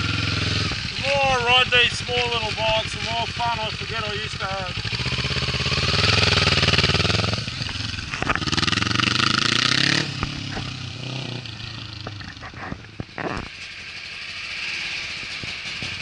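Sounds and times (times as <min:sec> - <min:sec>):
exhaust cracks: 0:00.0 - 0:13.8
motorcycle engine accelerating: 0:00.0 - 0:16.0.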